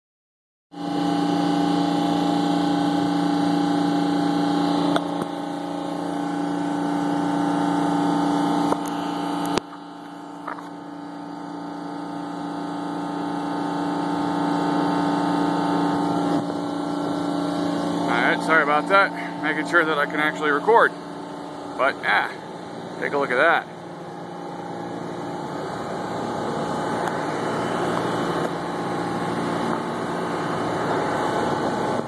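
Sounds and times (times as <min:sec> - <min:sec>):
steady machine hum: 0:00.7 - 0:32.0.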